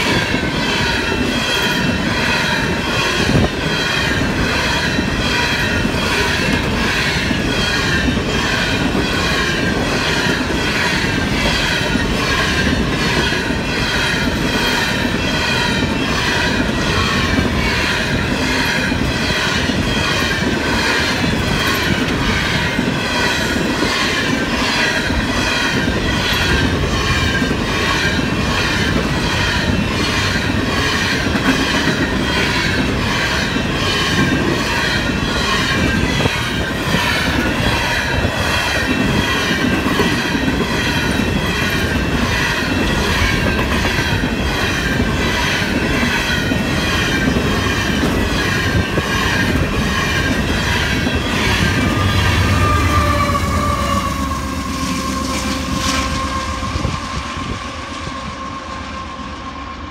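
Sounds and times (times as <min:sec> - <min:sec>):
freight train wheels clattering on rails: 0:00.0 - 0:58.2
crossing warning bell ringing: 0:00.0 - 0:59.5.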